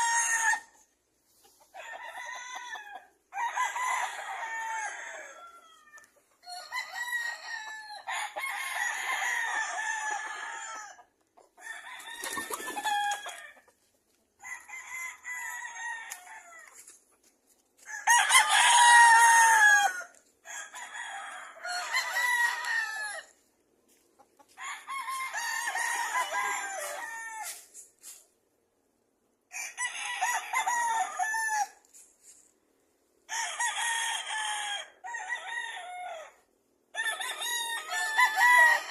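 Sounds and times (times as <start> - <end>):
rooster crowing: 0.0 - 0.8, 1.7 - 13.6, 14.4 - 16.8, 17.8 - 23.4, 24.5 - 27.7, 29.5 - 31.8, 33.3 - 38.9.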